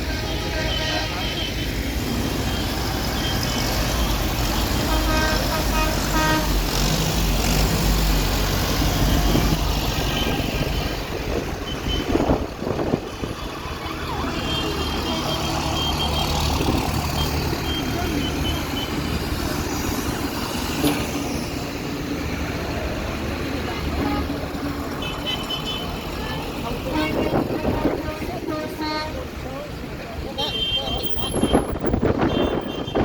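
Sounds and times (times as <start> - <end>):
tractor engines droning: 0.0 - 33.0.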